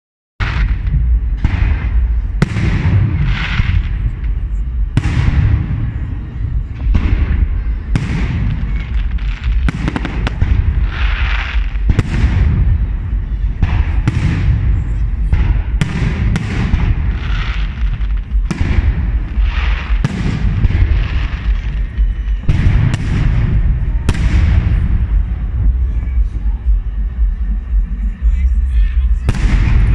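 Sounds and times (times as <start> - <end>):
steady low rumble: 0.4 - 29.9.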